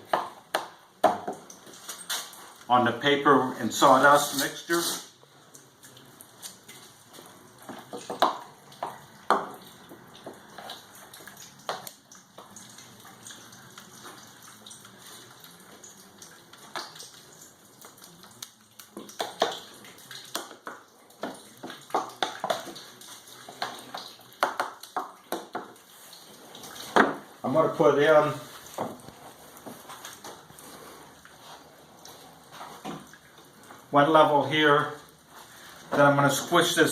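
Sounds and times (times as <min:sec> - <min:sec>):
scooping wet pulp into pans: 0:00.0 - 0:36.9.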